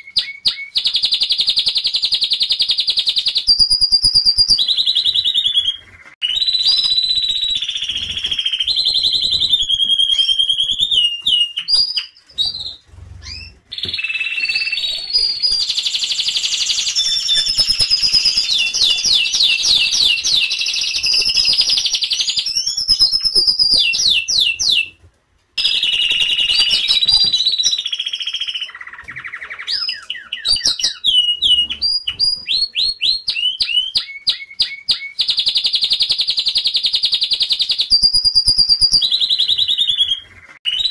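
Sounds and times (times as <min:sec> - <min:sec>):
canaries singing: 0:00.0 - 0:40.9.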